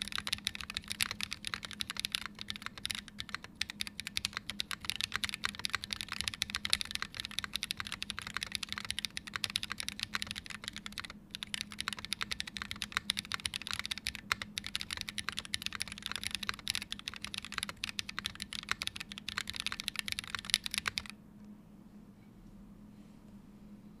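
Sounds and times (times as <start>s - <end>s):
mechanical keyboard typing: 0.0s - 21.2s.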